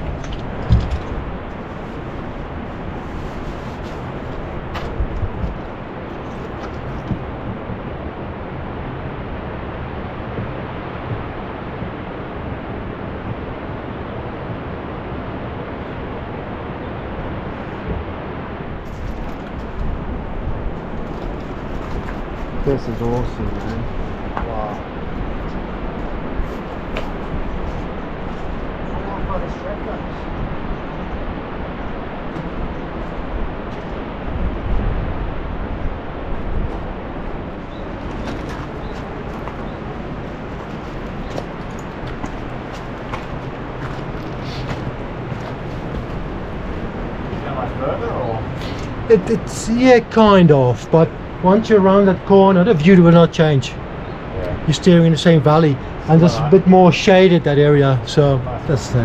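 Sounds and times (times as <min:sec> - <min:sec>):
wind blowing across microphone: 0:00.0 - 0:59.0.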